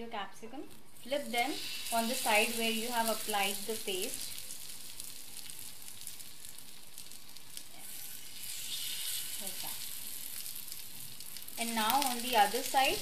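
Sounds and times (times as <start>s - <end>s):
hot oil sizzling in a pan: 1.0s - 13.0s.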